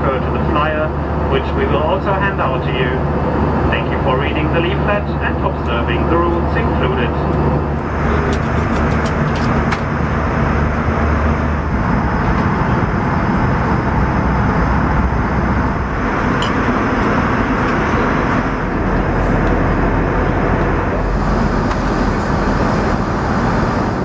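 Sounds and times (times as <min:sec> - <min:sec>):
aircraft engine drone: 0:00.0 - 0:24.0
airflow rushing in aircraft cabin: 0:00.0 - 0:24.0
low hum: 0:00.0 - 0:24.0.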